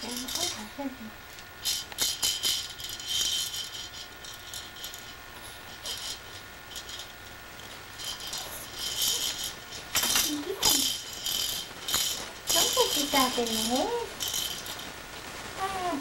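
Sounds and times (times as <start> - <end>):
plastic baby rattle shaking: 0.0 - 0.7, 1.6 - 15.0.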